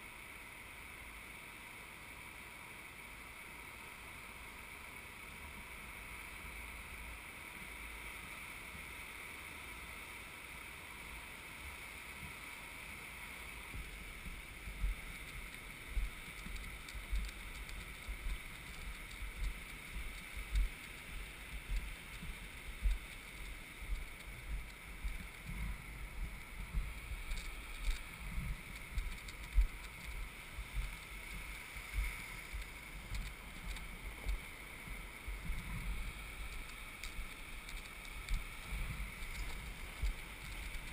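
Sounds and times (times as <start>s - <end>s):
surf on a beach: 0.0s - 40.9s
wind: 0.0s - 40.9s.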